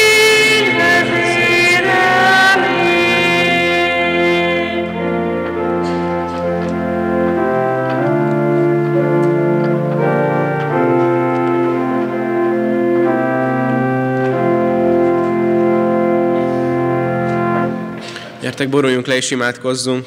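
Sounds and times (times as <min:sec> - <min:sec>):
church organ playing hymn chords: 0:00.0 - 0:18.9.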